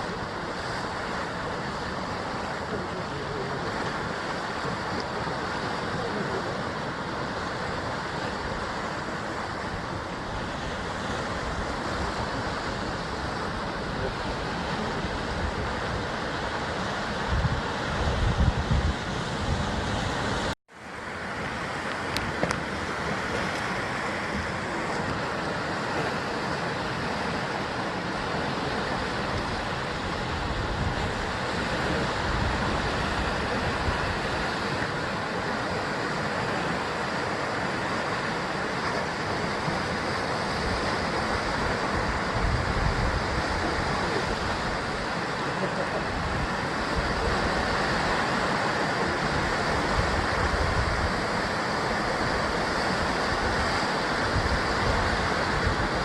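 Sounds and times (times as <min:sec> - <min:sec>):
wind rumble on microphone: 0:00.0 - 0:20.6, 0:21.6 - 0:56.0
waves washing on rocky coast: 0:00.0 - 0:56.0.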